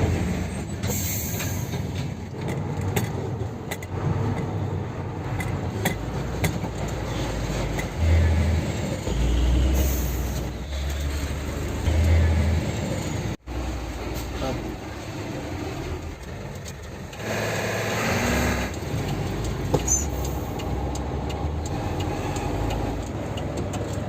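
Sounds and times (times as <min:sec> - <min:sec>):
dump truck engine rumbling: 0:00.0 - 0:24.0.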